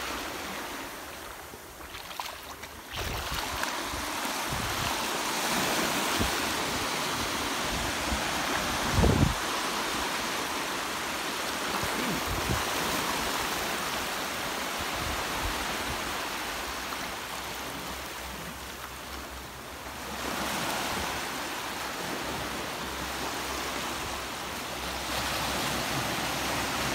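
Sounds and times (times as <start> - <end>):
small waves washing on shore: 0.0 - 26.9.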